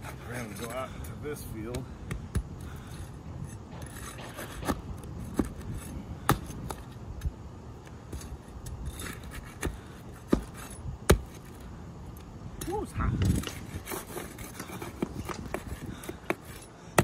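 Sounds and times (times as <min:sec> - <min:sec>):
metal pry tool scraping shingles: 0:00.0 - 0:07.3, 0:08.0 - 0:11.6, 0:12.6 - 0:17.0.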